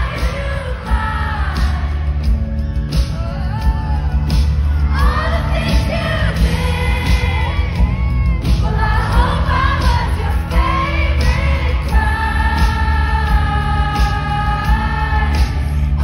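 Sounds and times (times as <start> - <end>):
crowd voices: 0.0 - 16.0
live pop band: 0.0 - 16.0
woman singing amplified: 0.0 - 16.0.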